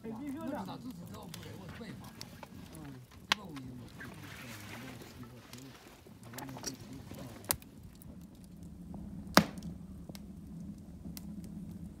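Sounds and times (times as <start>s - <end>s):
fire crackling: 0.0s - 12.0s
sharp fire pops: 0.0s - 12.0s.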